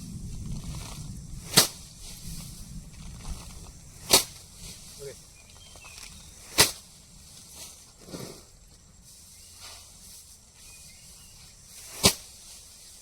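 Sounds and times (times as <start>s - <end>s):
rice sheaves whacking: 0.6s - 8.4s, 9.5s - 13.0s.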